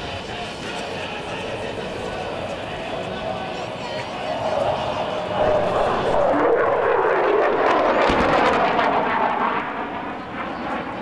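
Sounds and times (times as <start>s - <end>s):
fighter jet passing: 0.0s - 11.0s.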